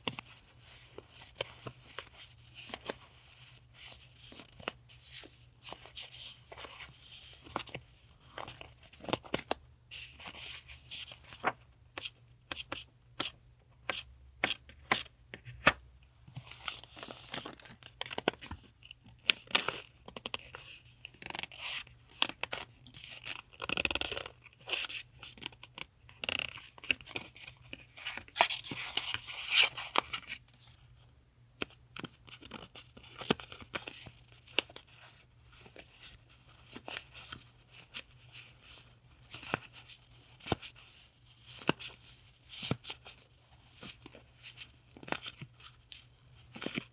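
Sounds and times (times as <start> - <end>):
faint refrigerator hum: 0.0 - 46.9.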